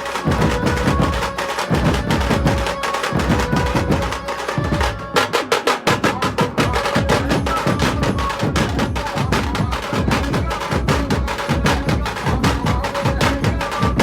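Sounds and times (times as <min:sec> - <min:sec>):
music with heavy drumming: 0:00.0 - 0:14.0
sharp drum strokes: 0:00.0 - 0:14.0.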